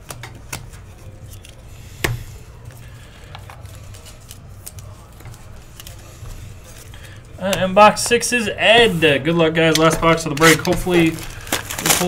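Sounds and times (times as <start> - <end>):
cards rustling: 0.0 - 12.0.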